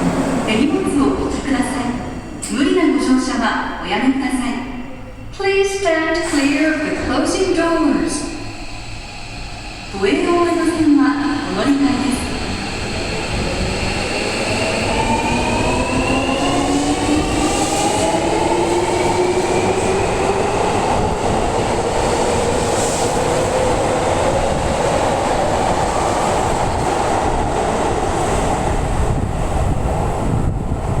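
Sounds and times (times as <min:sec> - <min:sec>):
train rail running noise: 0:00.0 - 0:31.0.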